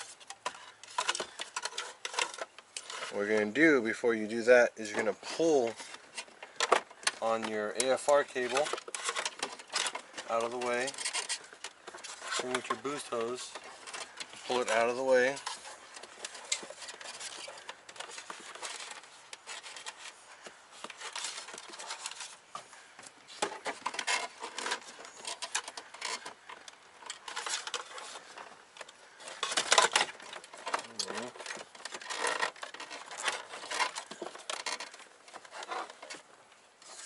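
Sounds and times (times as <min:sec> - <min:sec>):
wiring rustling and rubbing: 0:00.0 - 0:37.0.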